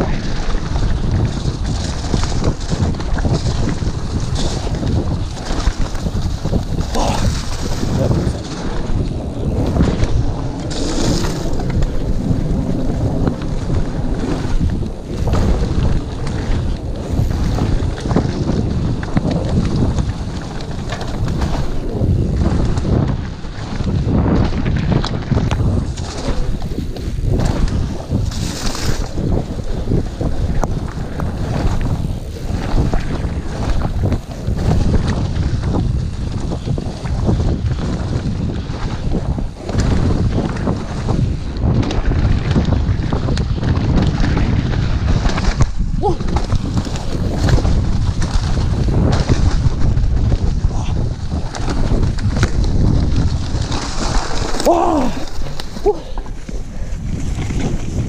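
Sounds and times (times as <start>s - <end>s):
bike tyre noise and rattle: 0.0s - 58.0s
wind buffeting microphone: 0.0s - 58.0s.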